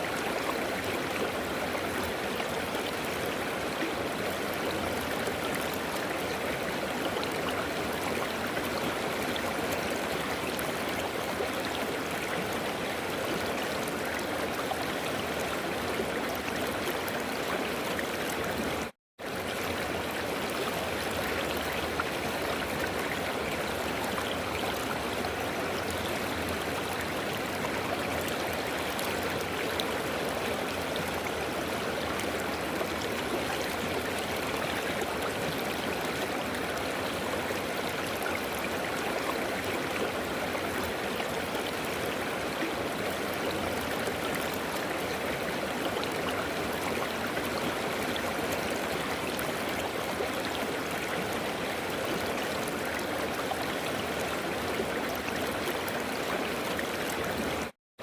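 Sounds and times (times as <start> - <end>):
river water flowing over rocks: 0.0 - 57.8.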